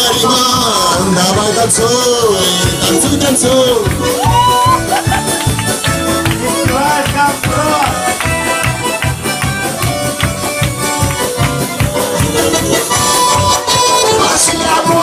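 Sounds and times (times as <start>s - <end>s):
live band playing dance music: 0.0s - 15.0s
people clapping along: 0.1s - 15.0s.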